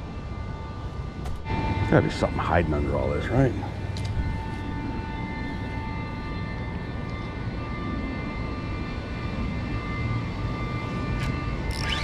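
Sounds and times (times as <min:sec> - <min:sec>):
constant high tones: 0:00.0 - 0:12.0
distant engine droning: 0:00.0 - 0:12.0.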